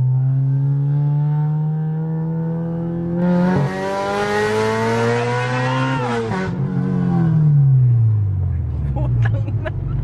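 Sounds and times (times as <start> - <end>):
car engine accelerating hard: 0.0 - 8.3.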